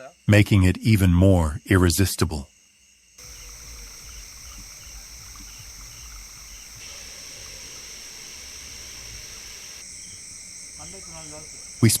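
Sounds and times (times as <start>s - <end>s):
cricket chirping: 0.0s - 12.0s
insects droning: 0.0s - 12.0s.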